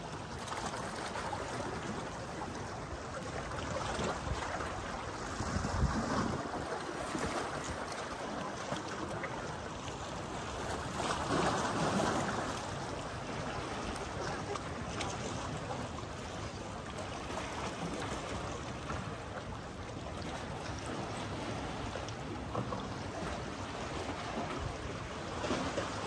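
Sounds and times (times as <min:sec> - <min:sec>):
lake water lapping: 0:00.0 - 0:26.0.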